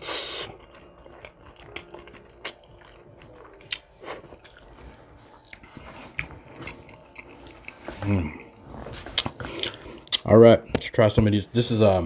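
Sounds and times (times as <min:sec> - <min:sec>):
chewing spaghetti: 0:00.0 - 0:10.3.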